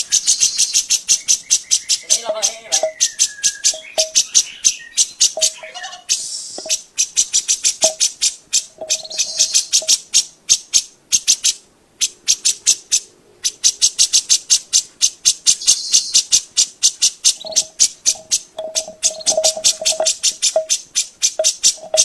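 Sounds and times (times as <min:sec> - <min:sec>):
bird chattering song: 0:00.0 - 0:22.0.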